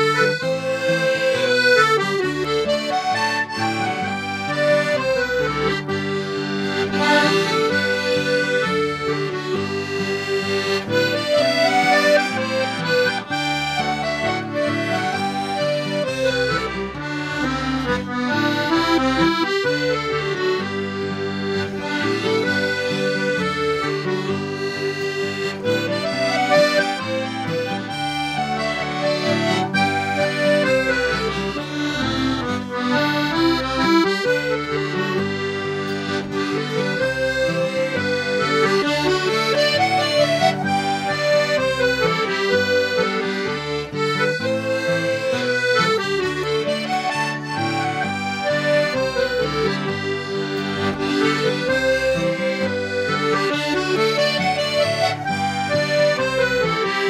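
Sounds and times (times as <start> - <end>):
accordion melody: 0.0 - 57.0.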